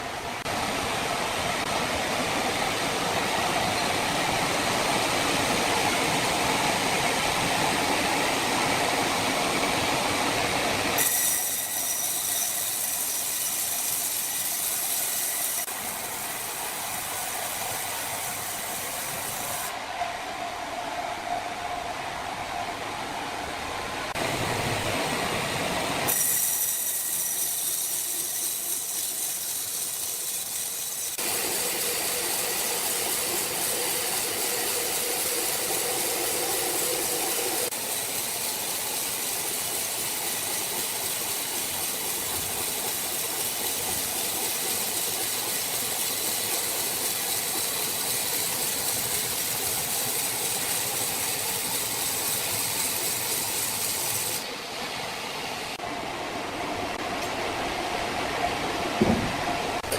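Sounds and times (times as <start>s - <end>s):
sawmill machinery hissing: 0.0s - 20.3s, 24.0s - 59.9s.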